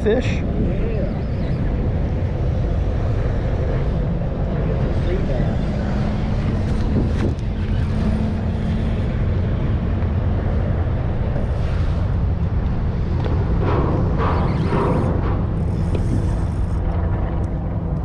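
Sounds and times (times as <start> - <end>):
boat motor rumbling: 0.0 - 18.0.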